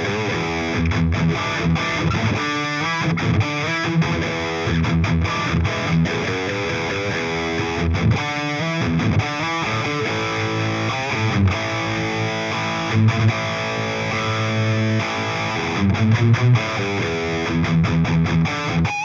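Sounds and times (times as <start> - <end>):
electric guitar playing: 0.0 - 19.0.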